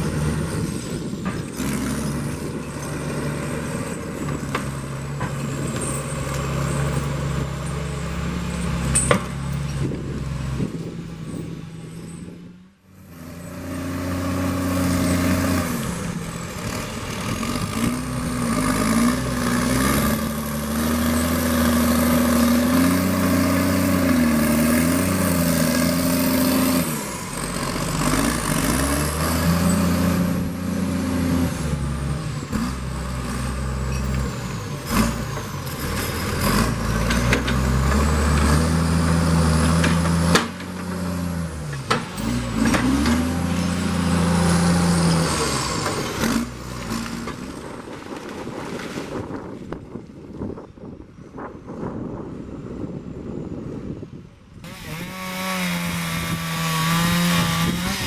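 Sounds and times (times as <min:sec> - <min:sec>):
logging machine engine under load: 0:00.0 - 0:49.5, 0:54.6 - 0:58.0.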